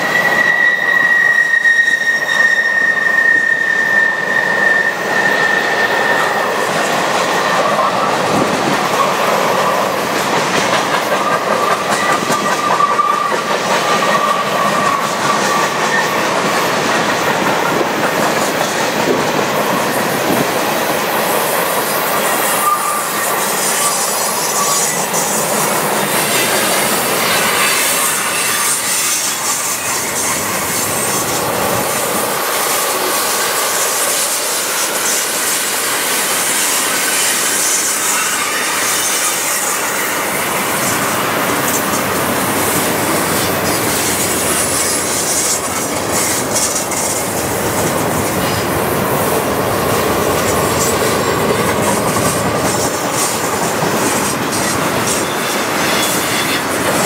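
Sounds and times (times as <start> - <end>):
high wheel squeal: 0.0 - 10.4, 11.0 - 16.7, 21.7 - 48.8, 49.9 - 57.0
steel wheels clattering over rails: 3.1 - 57.0.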